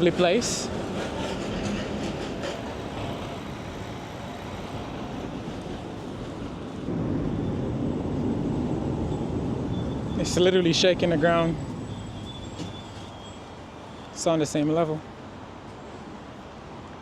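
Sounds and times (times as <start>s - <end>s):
rail vehicle rolling past: 0.0s - 17.0s.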